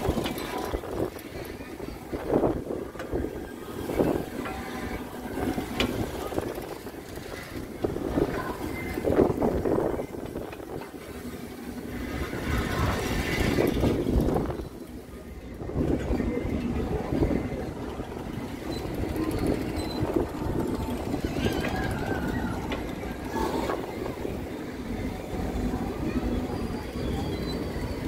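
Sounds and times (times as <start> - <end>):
fairground ride rumbling: 0.0 - 28.0.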